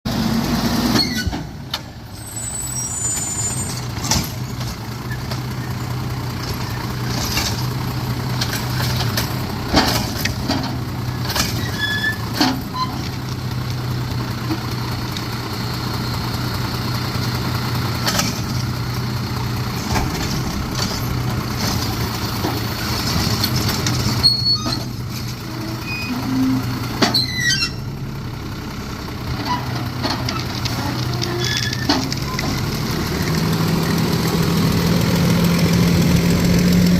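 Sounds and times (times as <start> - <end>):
garbage truck diesel engine: 0.0 - 36.9.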